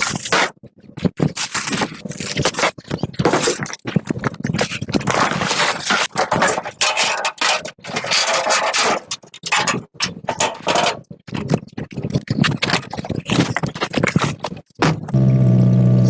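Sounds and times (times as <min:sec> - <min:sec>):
rough scraping and rustling: 0:00.0 - 0:14.7.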